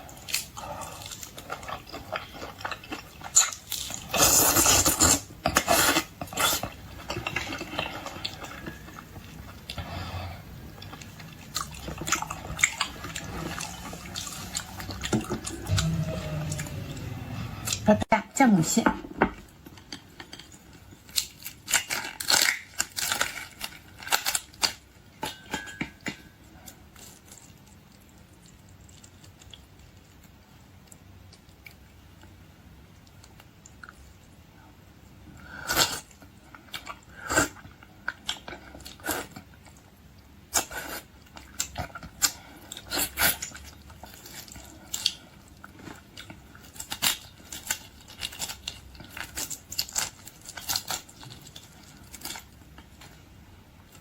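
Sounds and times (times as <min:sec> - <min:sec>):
chewing and crunching seafood: 0:00.0 - 0:17.8, 0:19.6 - 0:25.4, 0:26.2 - 0:32.4, 0:35.8 - 0:54.0.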